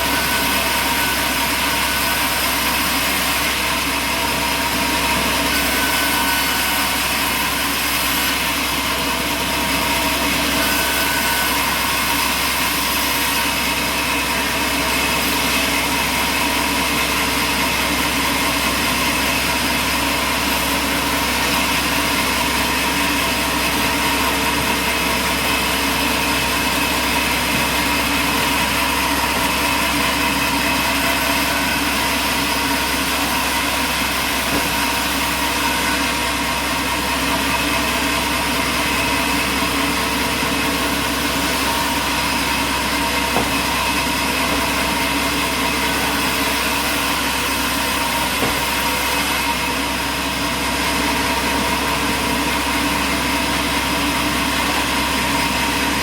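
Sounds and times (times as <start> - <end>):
heavy machinery drone: 0.0 - 56.0.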